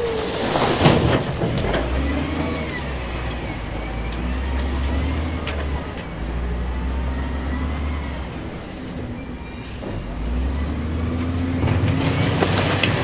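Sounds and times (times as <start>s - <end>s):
diesel machinery droning: 0.0s - 13.0s.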